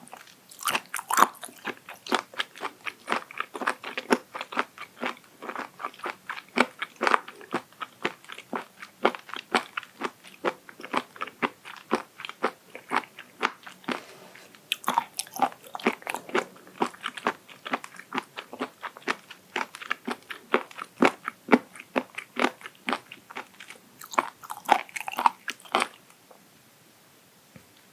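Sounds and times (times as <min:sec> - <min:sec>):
crisp chewing crunches: 0:00.0 - 0:14.0, 0:14.7 - 0:26.2.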